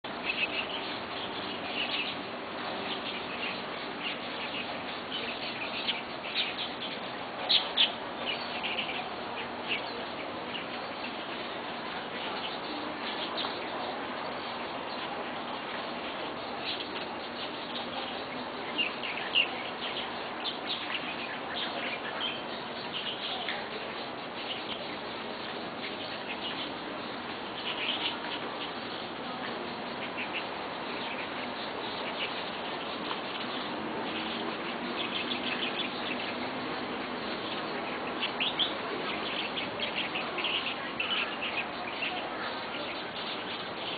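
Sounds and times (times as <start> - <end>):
birds chirping: 0.0 - 43.9
insects buzzing: 0.0 - 43.9.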